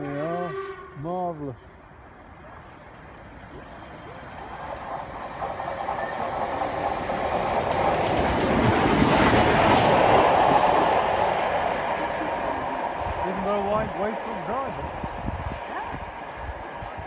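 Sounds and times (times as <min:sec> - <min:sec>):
steam train passing: 0:00.0 - 0:17.0.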